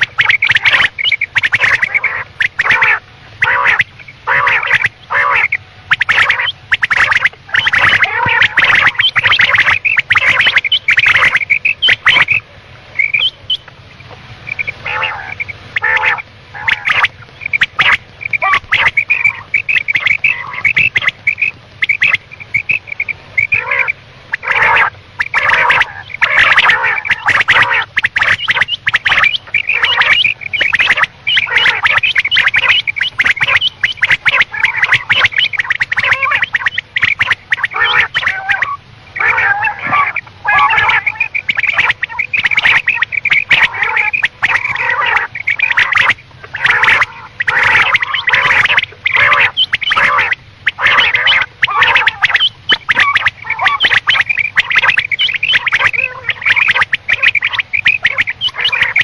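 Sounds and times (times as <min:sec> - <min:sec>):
quail calling: 0:00.0 - 0:59.0.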